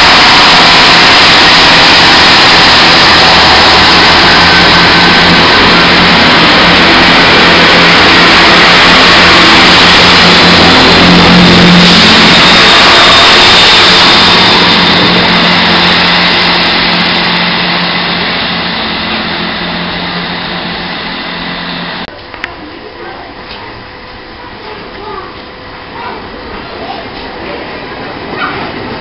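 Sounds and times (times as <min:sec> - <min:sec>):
diesel train engines humming: 0:00.0 - 0:29.0.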